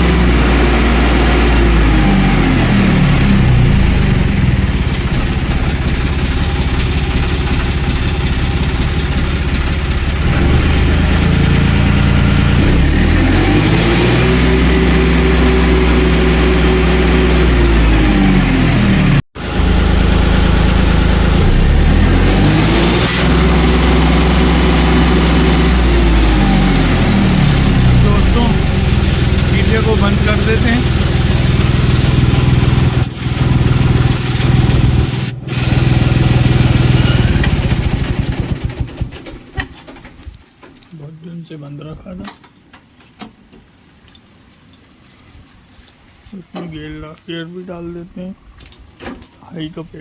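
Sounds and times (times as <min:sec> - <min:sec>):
tractor diesel engine revving: 0:00.0 - 0:40.0.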